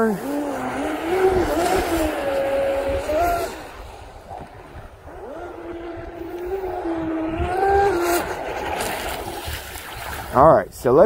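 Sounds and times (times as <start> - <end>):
model boat motor whining: 0.0 - 10.4
low wind rumble: 0.0 - 11.0.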